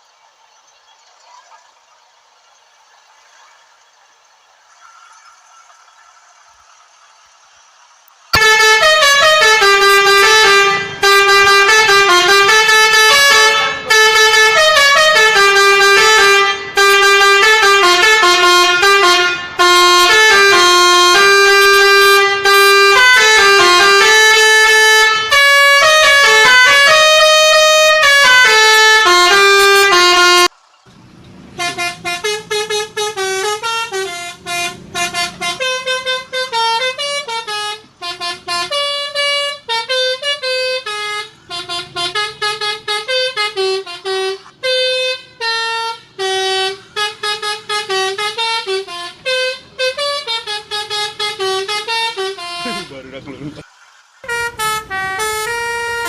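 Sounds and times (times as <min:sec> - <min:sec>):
musical truck horn tune: 0:08.3 - 0:53.6, 0:54.2 - 0:56.0.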